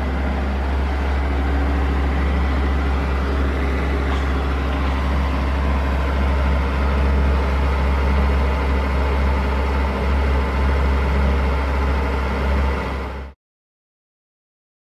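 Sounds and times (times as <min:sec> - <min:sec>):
car engine idling: 0:00.0 - 0:13.3.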